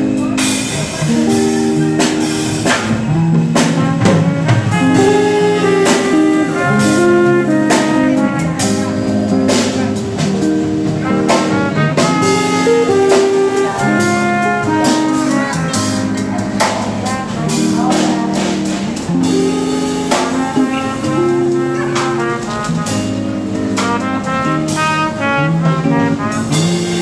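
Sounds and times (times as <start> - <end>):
percussion hits: 0.0 - 25.1
small band playing live: 0.0 - 27.0.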